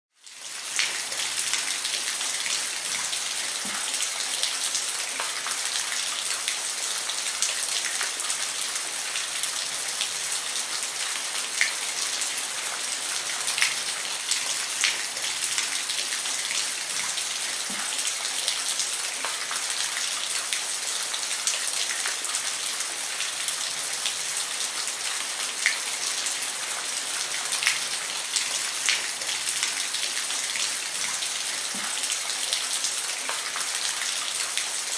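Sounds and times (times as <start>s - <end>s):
rain falling on a roof: 0.2s - 34.9s.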